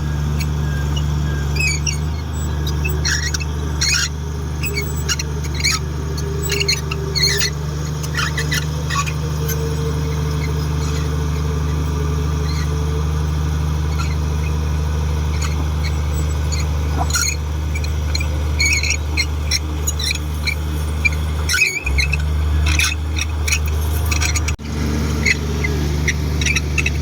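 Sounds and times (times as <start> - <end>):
bulldozer diesel engine running: 0.0 - 27.0
high squeaks and clicks: 0.0 - 27.0.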